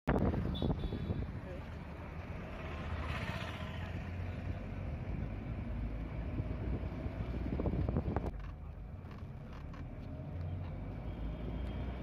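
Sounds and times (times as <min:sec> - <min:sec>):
moving vehicle rumble: 0:00.1 - 0:12.0.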